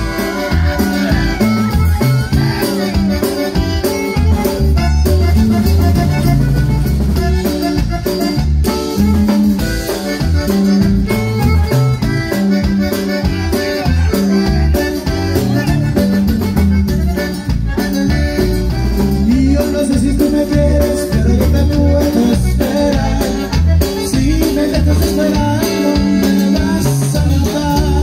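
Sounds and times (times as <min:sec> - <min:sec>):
accordion band music: 0:00.0 - 0:28.0.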